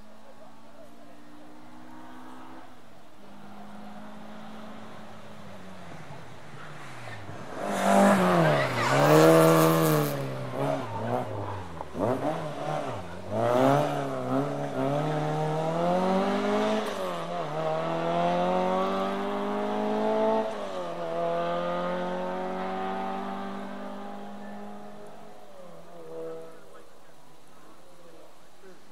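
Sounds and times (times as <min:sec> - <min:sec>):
rally car engine: 0:00.0 - 0:28.9.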